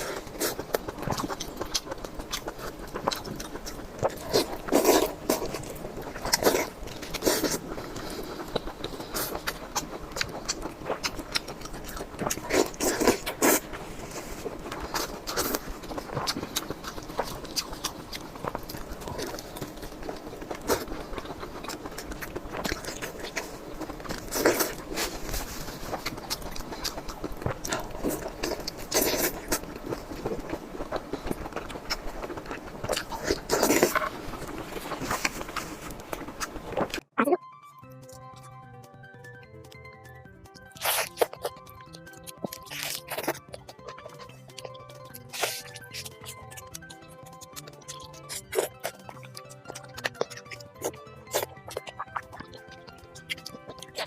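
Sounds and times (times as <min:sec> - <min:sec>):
person biting and chewing: 0:00.0 - 0:37.0, 0:40.6 - 0:54.0.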